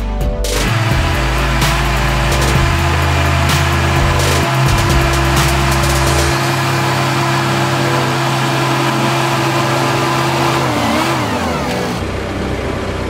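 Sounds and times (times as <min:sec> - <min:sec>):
bulldozer diesel engine running: 0:00.6 - 0:13.0.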